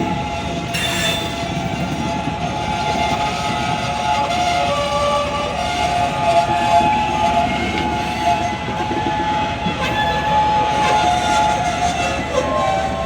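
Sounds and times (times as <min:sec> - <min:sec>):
locomotive rumble: 0:00.0 - 0:13.0.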